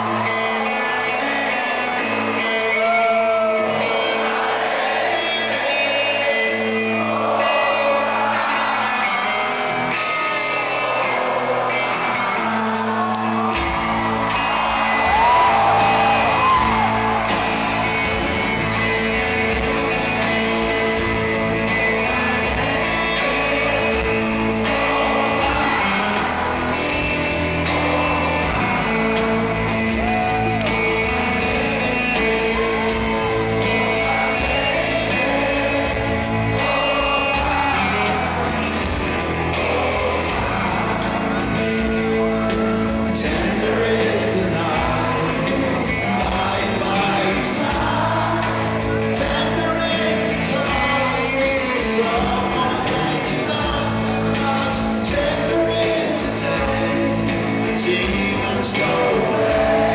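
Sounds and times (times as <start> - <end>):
crowd shouting: 0.0 - 59.9
lead vocal singing: 0.0 - 59.9
rock band playing live: 0.0 - 59.9.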